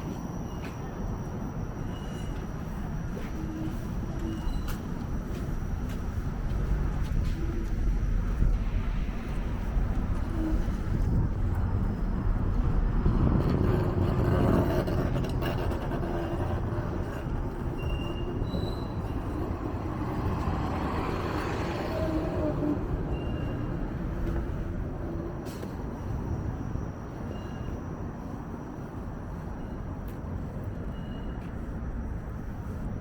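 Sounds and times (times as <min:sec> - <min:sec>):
streetcar rumbling on rails: 0:00.0 - 0:33.0.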